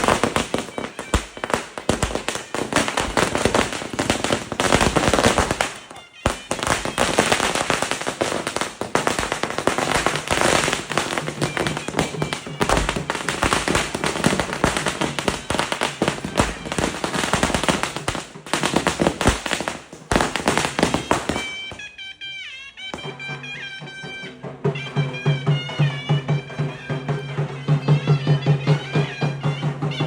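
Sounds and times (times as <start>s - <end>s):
firecrackers cracking: 0.0s - 30.0s.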